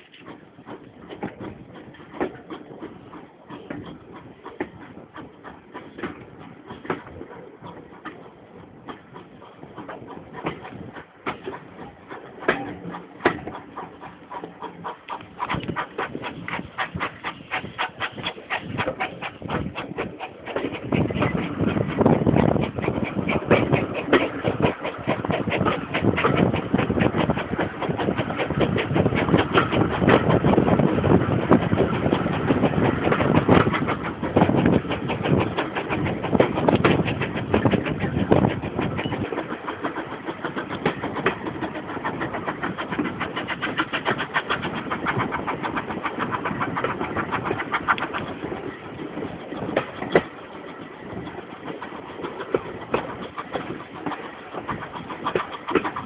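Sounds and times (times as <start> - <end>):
steam locomotive exhaust beats: 0.0 - 56.0
train running noise: 0.0 - 56.0.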